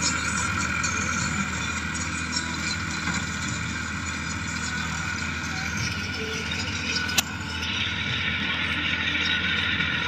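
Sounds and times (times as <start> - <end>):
mechanical whine: 0.0 - 10.0
tractor engine running: 0.0 - 10.0.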